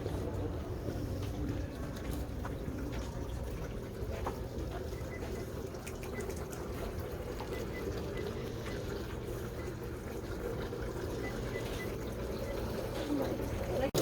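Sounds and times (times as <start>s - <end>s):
constant hum: 0.0s - 14.0s.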